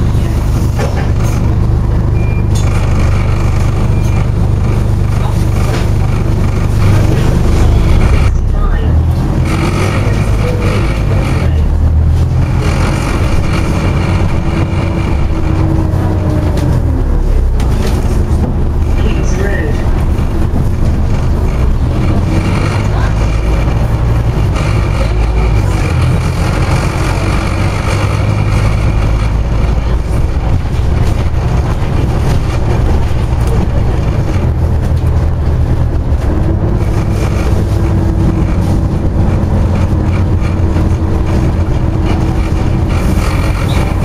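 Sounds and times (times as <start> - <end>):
bus engine droning: 0.0 - 44.0
high whine: 0.0 - 44.0.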